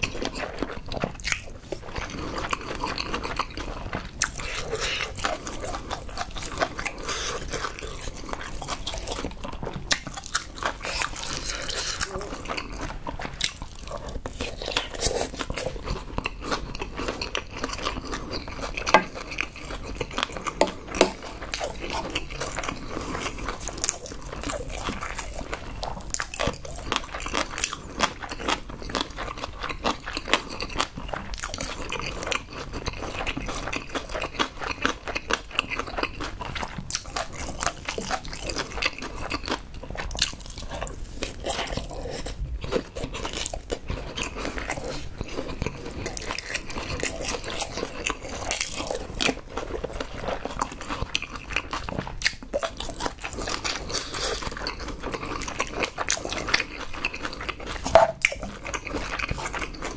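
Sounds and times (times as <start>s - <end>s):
wet chewing and smacking: 0.0s - 59.9s.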